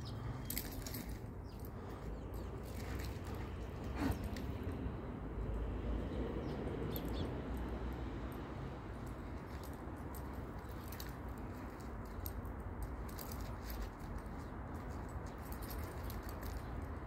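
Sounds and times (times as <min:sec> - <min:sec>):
light metallic jingling: 0:00.0 - 0:17.0.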